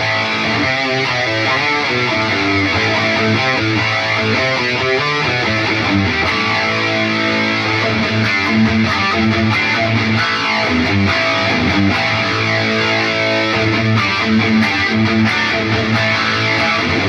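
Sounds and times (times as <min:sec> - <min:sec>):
distorted electric guitar riffing: 0:00.0 - 0:17.0.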